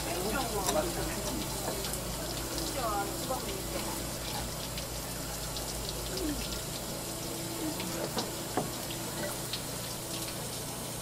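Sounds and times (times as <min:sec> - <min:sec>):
water splashing from hose: 0:00.0 - 0:11.0.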